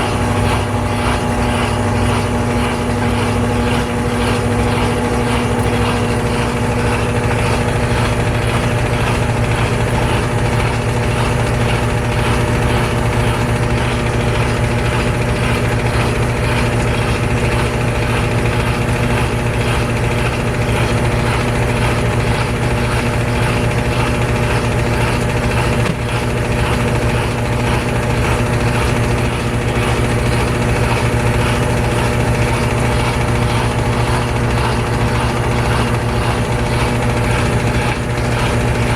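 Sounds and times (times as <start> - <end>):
motor hum: 0.0 - 38.9
washer tub spinning: 0.0 - 38.9.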